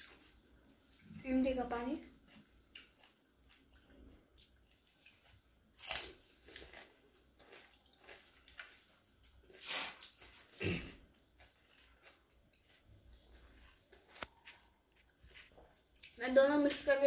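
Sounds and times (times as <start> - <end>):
crisp shells crunching when chewed: 2.0 - 16.2.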